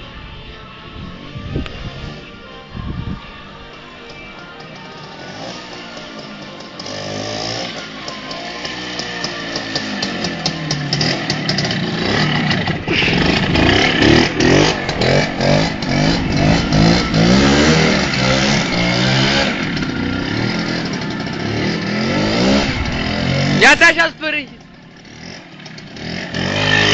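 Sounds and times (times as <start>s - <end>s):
motorcycle engine revving: 1.0s - 3.2s, 4.1s - 26.9s.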